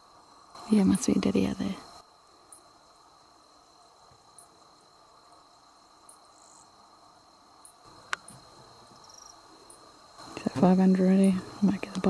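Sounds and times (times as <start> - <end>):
cricket chirp: 0.0 - 12.0
insects droning: 0.0 - 12.0.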